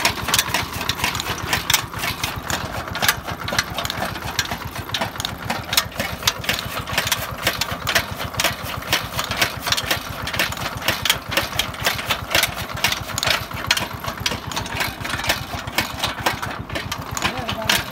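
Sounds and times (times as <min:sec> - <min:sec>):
cutter blades chopping fodder: 0:00.0 - 0:17.9
diesel engine thudding: 0:00.0 - 0:17.9.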